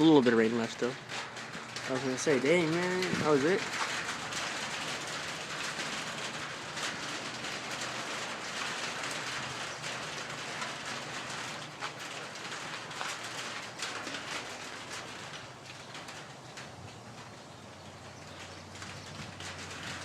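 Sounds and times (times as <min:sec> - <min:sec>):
light rain hissing: 0:00.0 - 0:20.0
raindrops ticking: 0:00.0 - 0:20.0.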